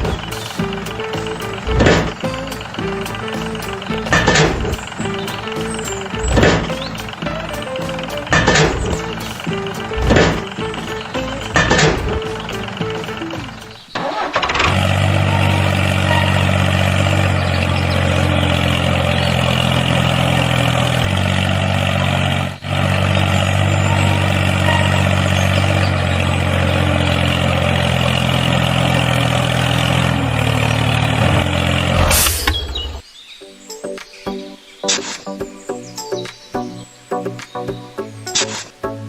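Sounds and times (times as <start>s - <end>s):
tractor engine idling: 0.0s - 33.0s.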